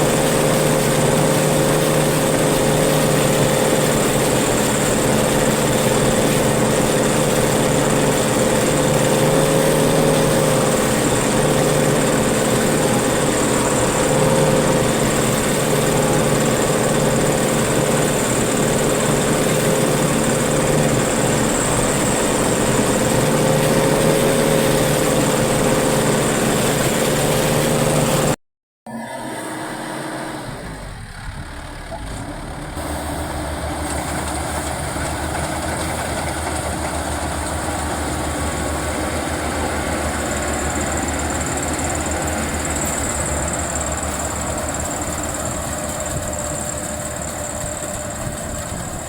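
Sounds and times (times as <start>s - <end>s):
combine harvester engine hum: 0.0s - 28.4s, 29.0s - 49.0s.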